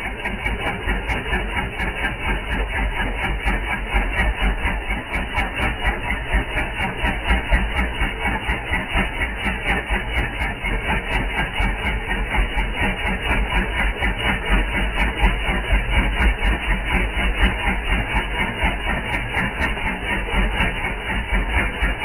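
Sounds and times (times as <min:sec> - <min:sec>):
electric pump motor pulsing: 0:00.0 - 0:22.0.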